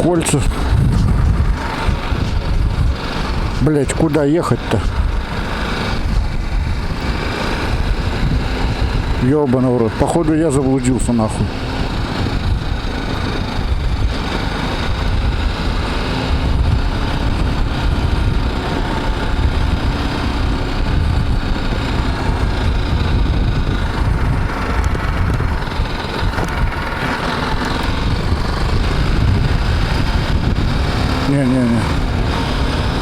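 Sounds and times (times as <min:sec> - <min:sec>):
motorcycle engine low rumble: 0:00.0 - 0:33.0.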